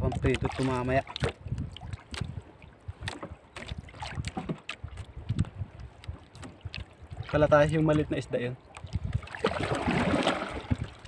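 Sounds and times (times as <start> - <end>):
water lapping against canoe hull: 0.0 - 11.0
wind buffeting microphone: 0.0 - 11.0.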